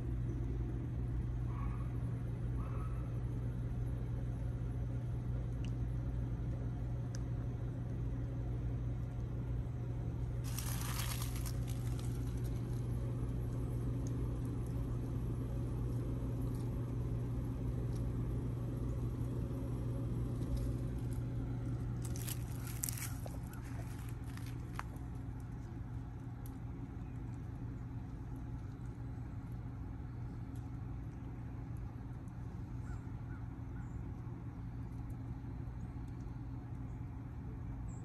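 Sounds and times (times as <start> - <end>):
heat pump humming: 0.0 - 38.0.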